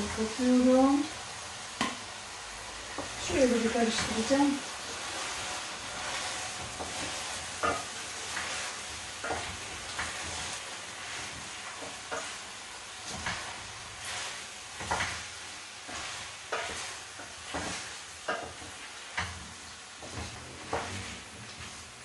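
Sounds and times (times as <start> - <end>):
food sizzling in a pan: 0.0 - 22.0
wooden spoon scraping a pan: 2.8 - 22.0.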